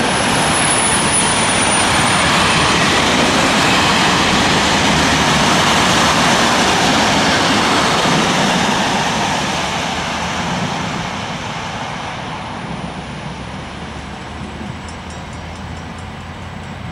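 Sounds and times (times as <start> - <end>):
freight train rumbling past: 0.0 - 16.9.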